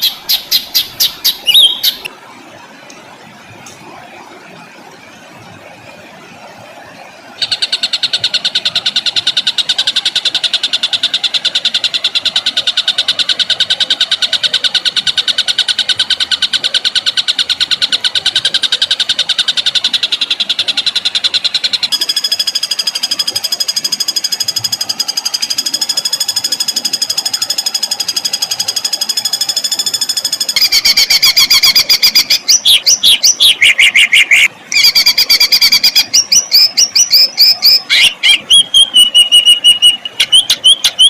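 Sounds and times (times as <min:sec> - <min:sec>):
songbird rapid rattling trill: 0:00.0 - 0:02.1, 0:07.4 - 0:41.0.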